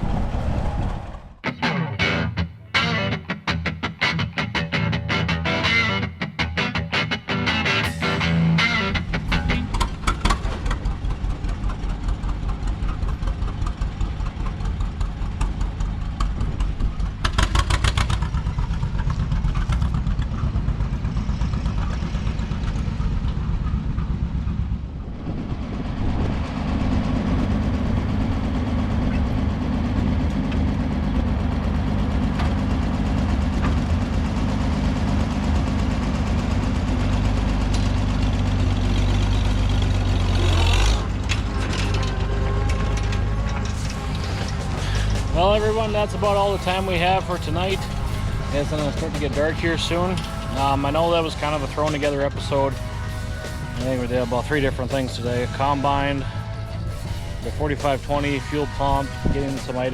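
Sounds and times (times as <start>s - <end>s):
diesel tractor engine running: 2.0s - 59.9s.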